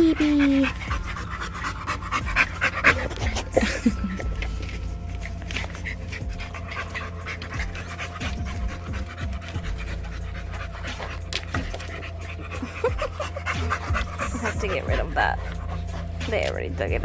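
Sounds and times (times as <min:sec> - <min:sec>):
puppy panting rapidly: 0:00.0 - 0:17.0
steady low hum: 0:00.0 - 0:17.0.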